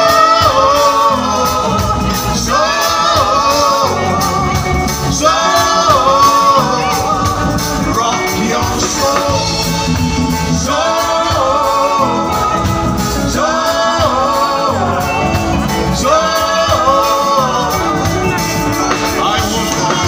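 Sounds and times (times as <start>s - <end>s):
backing singers: 0.0s - 20.0s
live band playing: 0.0s - 20.0s
man singing into a microphone: 0.0s - 20.0s.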